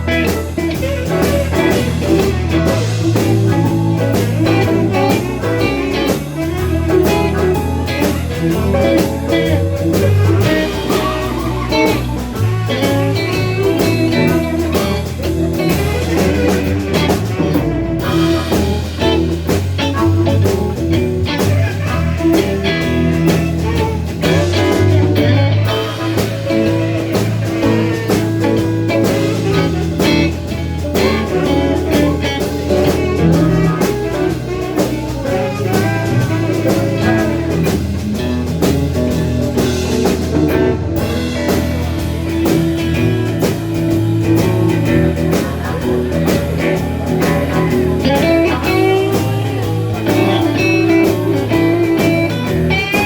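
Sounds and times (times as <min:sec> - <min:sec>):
bass guitar: 0:00.0 - 0:53.0
drums: 0:00.0 - 0:53.0
electric guitar lines: 0:00.0 - 0:53.0.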